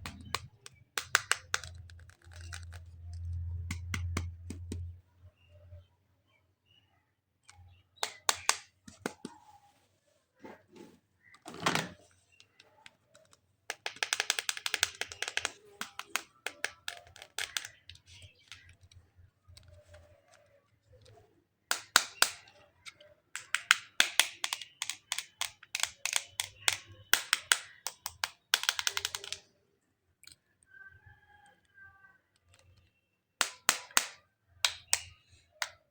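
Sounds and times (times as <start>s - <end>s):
plastic toys clicking: 0.0s - 4.9s, 7.4s - 9.4s, 11.3s - 29.6s, 30.2s - 30.8s, 31.5s - 35.9s.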